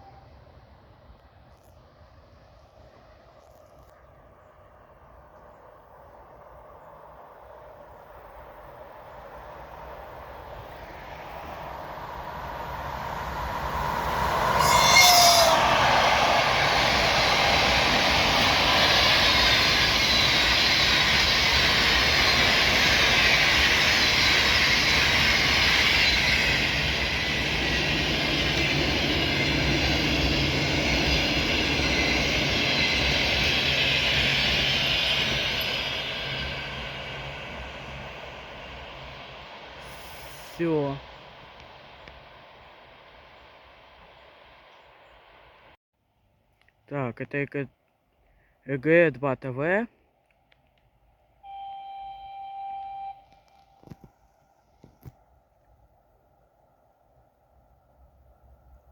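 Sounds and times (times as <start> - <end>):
train passing at speed: 0.0 - 45.8, 50.1 - 58.9.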